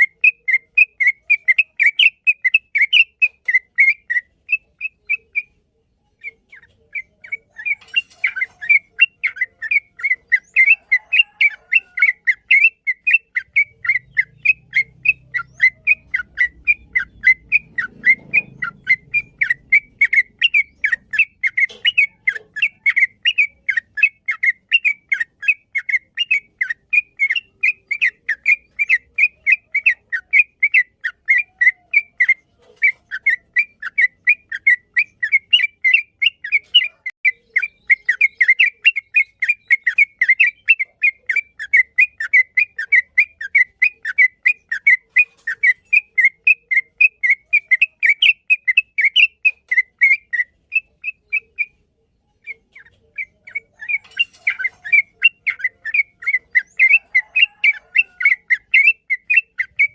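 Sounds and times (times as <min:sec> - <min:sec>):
bird singing rapid whistled notes: 0:00.0 - 0:59.9.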